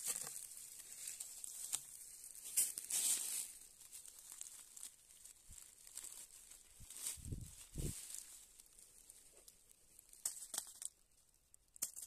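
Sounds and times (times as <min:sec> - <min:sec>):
dry leaves and twigs rustling: 0:00.0 - 0:12.0.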